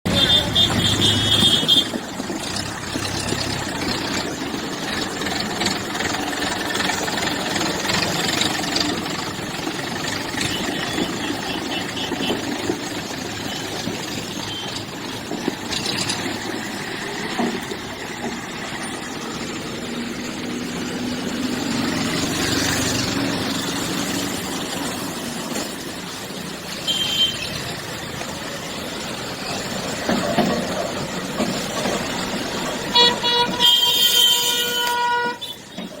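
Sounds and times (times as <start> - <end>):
road traffic noise: 0.0 - 36.0
vehicle engines running: 0.0 - 36.0.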